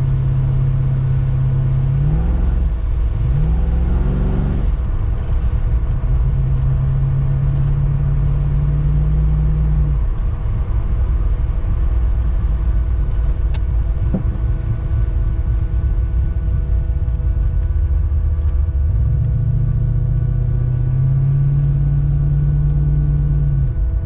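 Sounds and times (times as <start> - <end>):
low driving rumble: 0.0 - 24.0.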